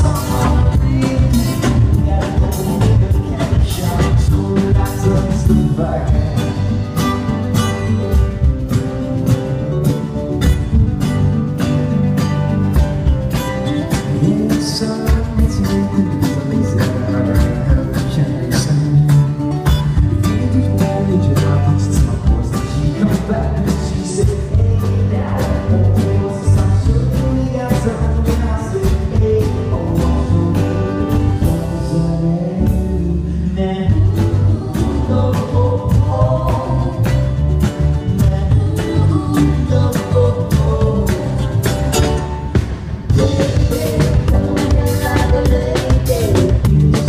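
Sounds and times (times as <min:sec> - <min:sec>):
man singing: 0:00.0 - 0:07.3, 0:13.8 - 0:47.0
steady drum beat: 0:00.0 - 0:33.1, 0:33.8 - 0:47.0
electric bass: 0:00.0 - 0:47.0
strummed acoustic guitar: 0:00.0 - 0:47.0.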